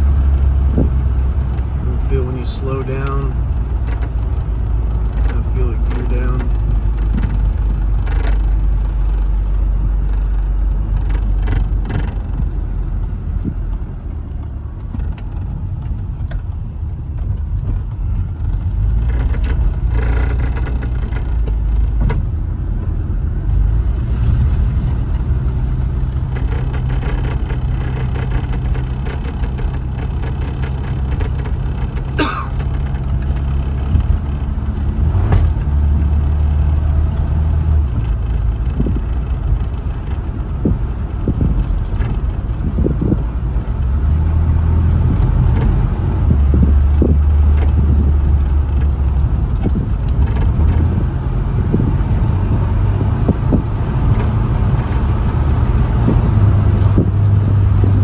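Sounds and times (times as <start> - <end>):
car engine droning: 0.0 - 58.0
road noise: 0.0 - 58.0
wind buffeting through windows: 0.0 - 58.0.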